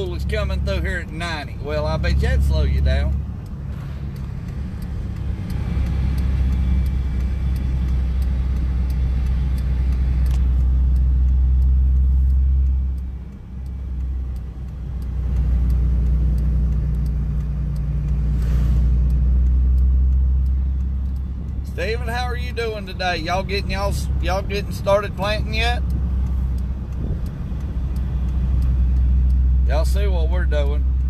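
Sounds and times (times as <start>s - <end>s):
faint regular ticking: 0.0s - 31.0s
vehicle engine and road rumble: 0.0s - 31.0s.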